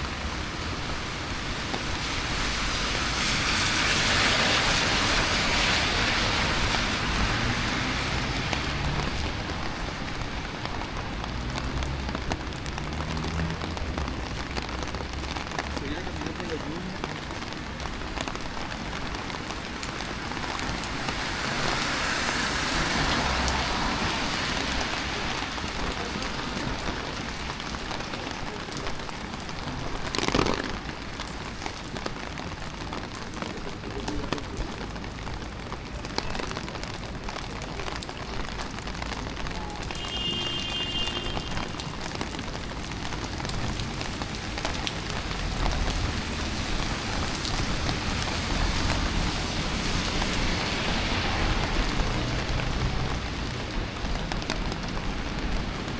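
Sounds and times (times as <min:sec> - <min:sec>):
rain on street: 0:00.0 - 0:55.9.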